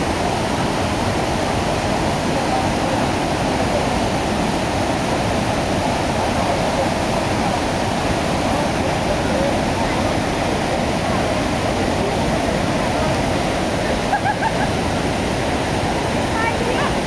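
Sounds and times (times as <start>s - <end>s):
water rushing over cascades: 0.0s - 17.0s.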